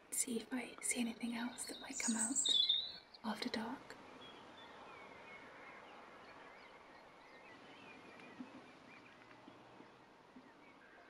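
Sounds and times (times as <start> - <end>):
distant birds chirping: 0.1 - 11.0.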